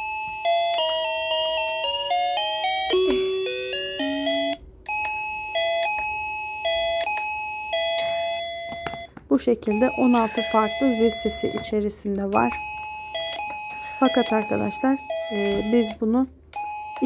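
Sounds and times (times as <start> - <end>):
electronic doorbell chime melody: 0.0 - 17.0.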